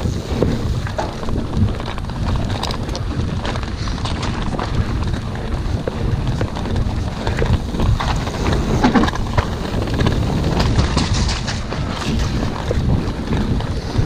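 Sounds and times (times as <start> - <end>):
bike rattling clicks and knocks: 0.0 - 14.0
tyres rumbling on dirt: 0.0 - 14.0
wind buffeting microphone: 0.0 - 14.0.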